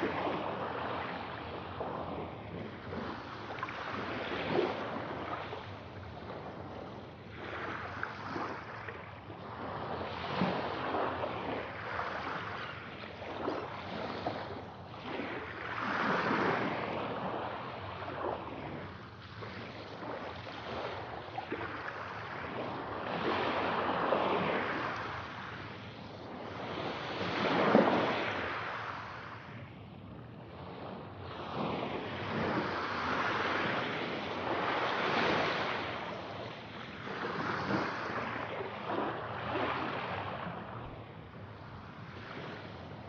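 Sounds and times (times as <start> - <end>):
ocean waves washing onto shore: 0.0 - 43.0.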